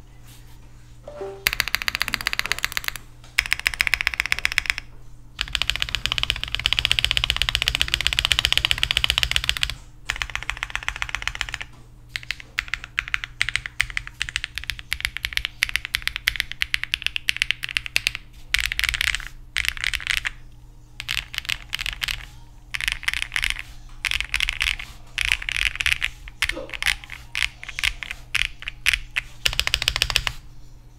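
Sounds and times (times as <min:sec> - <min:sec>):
mechanical keyboard typing: 0:01.4 - 0:20.4, 0:21.0 - 0:30.4.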